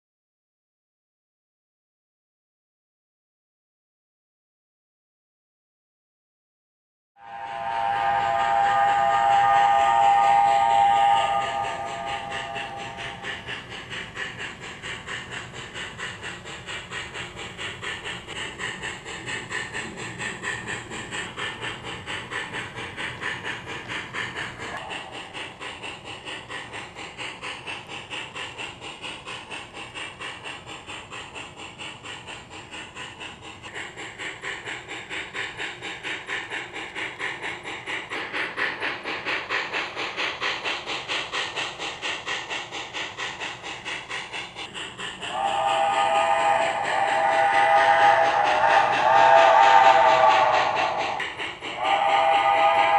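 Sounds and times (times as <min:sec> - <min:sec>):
model steam locomotive chuffing: 0:07.2 - 0:52.9.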